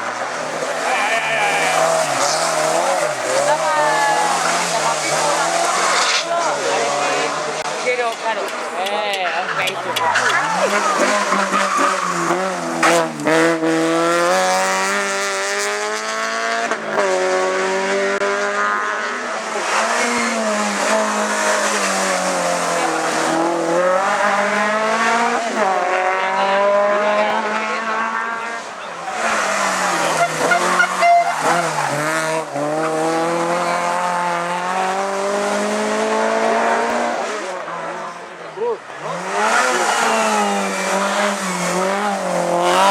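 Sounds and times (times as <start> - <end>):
race car engine at full throttle: 0.0 - 42.9.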